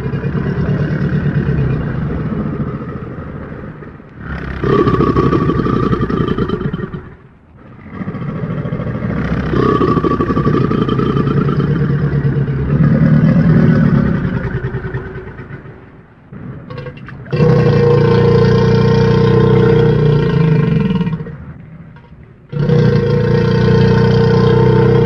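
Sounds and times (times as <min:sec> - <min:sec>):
deep creature growls: 0:00.0 - 0:21.8, 0:22.5 - 0:25.0.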